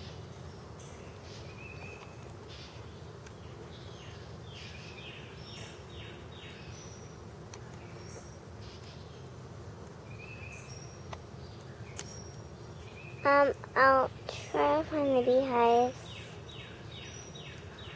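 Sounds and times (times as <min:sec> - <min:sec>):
bees humming: 0:00.0 - 0:17.9
songbirds singing: 0:00.0 - 0:17.9.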